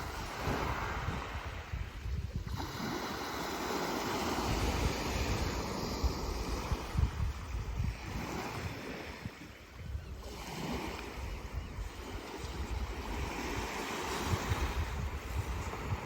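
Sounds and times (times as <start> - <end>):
sea waves washing ashore: 0.0 - 16.0
wind buffeting microphone: 0.0 - 16.0.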